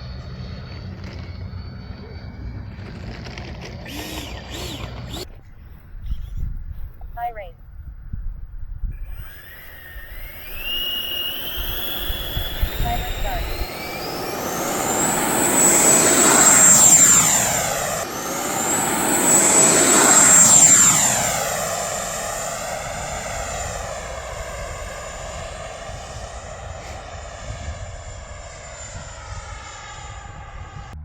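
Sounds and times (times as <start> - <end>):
model jet fan whine: 0.0 - 31.0.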